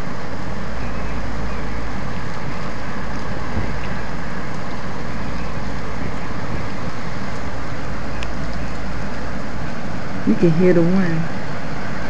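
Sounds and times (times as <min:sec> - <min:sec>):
strong wind blowing: 0:00.0 - 0:12.0
wind buffeting microphone: 0:00.0 - 0:12.0.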